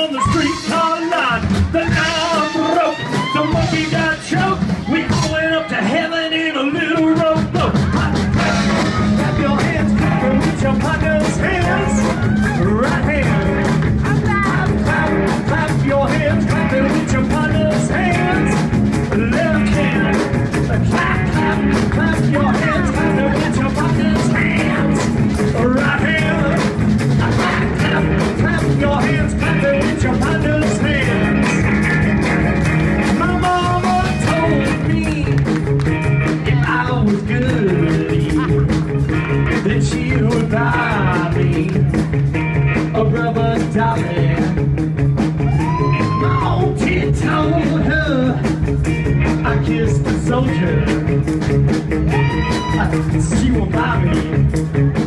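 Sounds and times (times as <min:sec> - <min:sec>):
person singing: 0:00.0 - 0:32.0, 0:33.0 - 0:44.6, 0:45.4 - 0:51.1, 0:52.0 - 0:55.0
live band with horns: 0:00.0 - 0:55.0.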